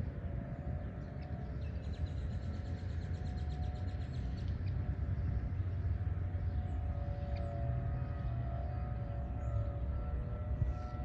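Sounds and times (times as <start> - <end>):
distant warning sirens: 0.0 - 11.0
low steady rumble: 0.0 - 11.0.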